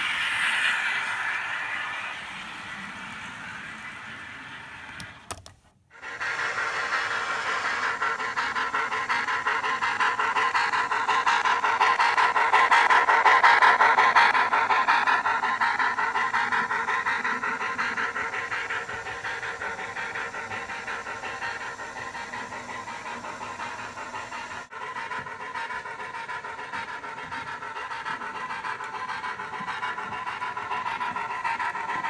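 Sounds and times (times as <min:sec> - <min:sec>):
model train running past: 0:00.0 - 0:32.0.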